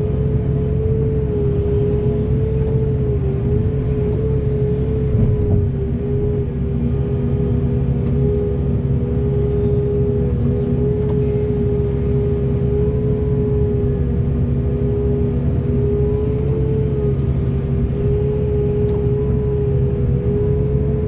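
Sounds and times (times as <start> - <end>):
heavy diesel machinery running: 0.0 - 21.0
steady high hum: 0.0 - 21.0.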